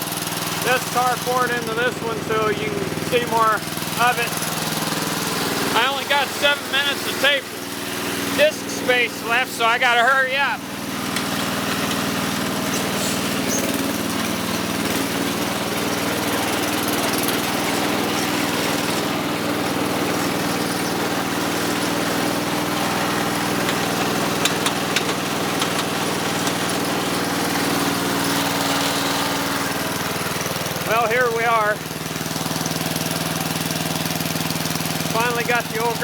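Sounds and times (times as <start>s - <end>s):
riding mower engine running: 0.0s - 36.0s.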